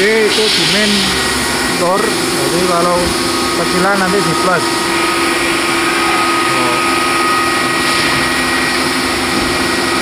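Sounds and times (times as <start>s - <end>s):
machinery hum and whir: 0.0s - 10.0s.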